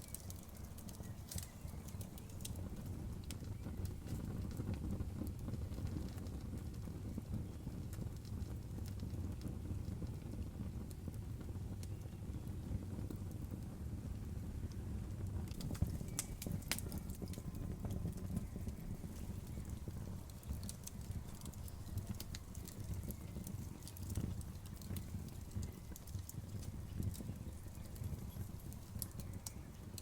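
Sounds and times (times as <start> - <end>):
fire crackling and popping: 0.0 - 30.0
low rumble of flame: 0.0 - 30.0.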